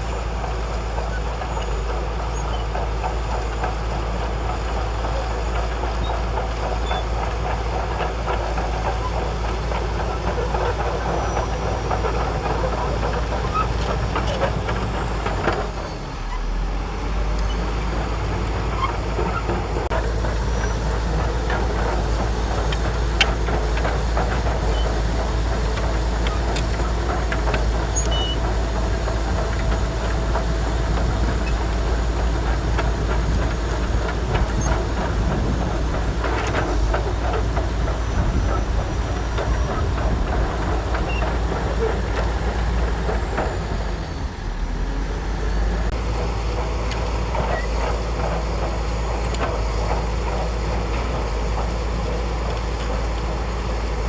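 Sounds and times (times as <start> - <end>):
bulldozer diesel engine running: 0.0 - 54.0
steel tracks clanking: 0.0 - 54.0.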